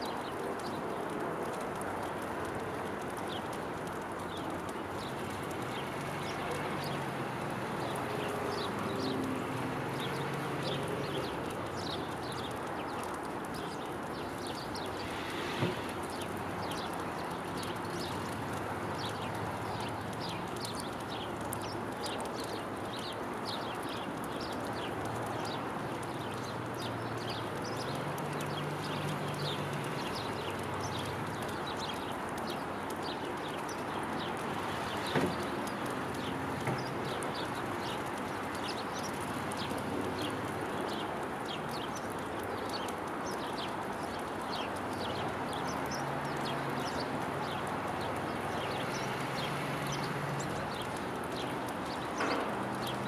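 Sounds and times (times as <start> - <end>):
outdoor background rush: 0.0 - 53.0
small birds chirping: 0.0 - 53.0.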